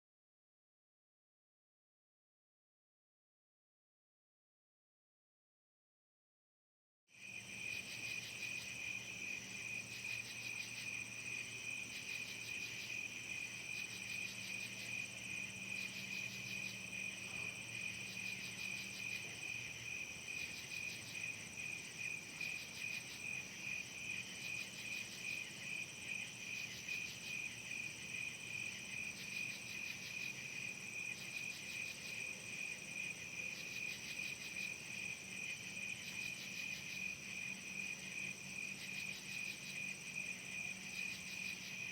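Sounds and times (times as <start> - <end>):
crickets chirping: 7.2 - 41.9.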